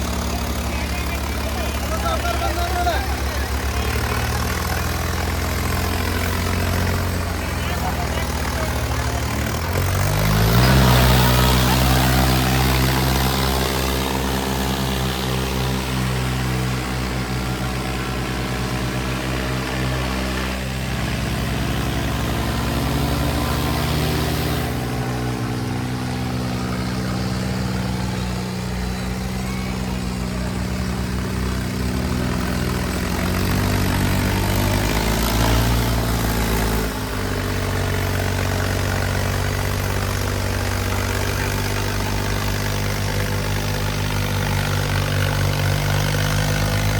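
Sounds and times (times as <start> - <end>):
diesel tractor engines under load: 0.0 - 46.9.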